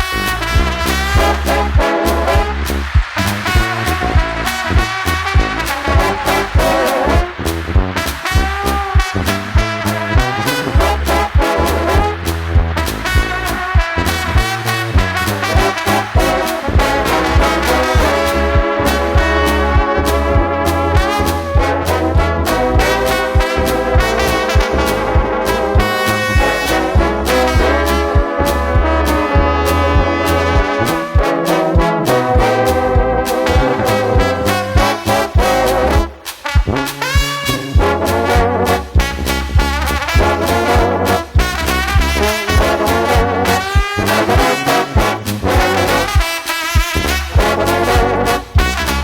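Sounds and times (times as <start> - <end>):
bass line: 0.0 - 49.0
brass band playing: 0.0 - 49.0
drum hits: 0.0 - 49.0.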